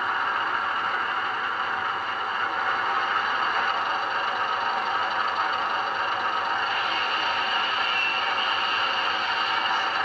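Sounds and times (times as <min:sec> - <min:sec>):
diesel engine idling through small speaker: 0:00.0 - 0:10.0.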